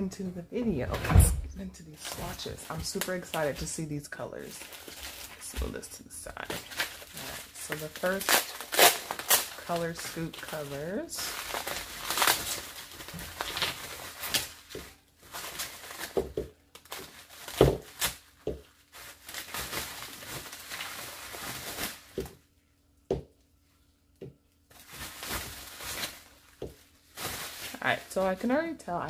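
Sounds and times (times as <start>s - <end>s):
bubble wrap crinkling: 1.8s - 23.0s, 23.6s - 29.0s.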